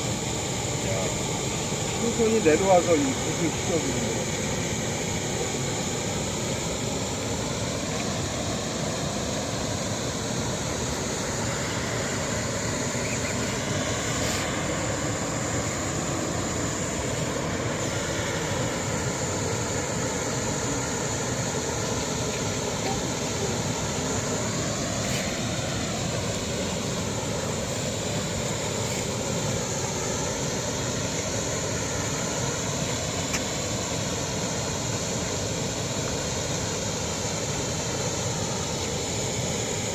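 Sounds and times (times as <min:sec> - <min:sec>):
waterfall rushing: 0:07.8 - 0:39.9.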